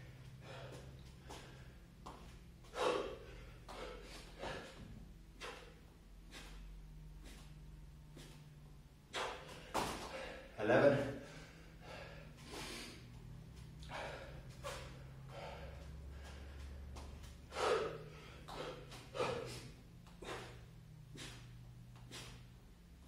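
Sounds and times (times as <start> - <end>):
man breathing hard: 0.0 - 8.5, 9.1 - 22.6.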